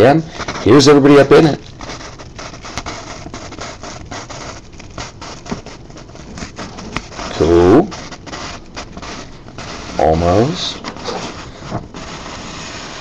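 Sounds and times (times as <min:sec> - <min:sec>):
paper rustling: 0:00.3 - 0:13.0.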